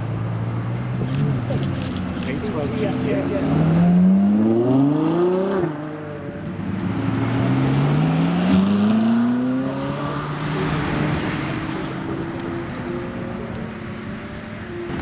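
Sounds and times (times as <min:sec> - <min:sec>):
car engine accelerating: 0:00.2 - 0:15.0.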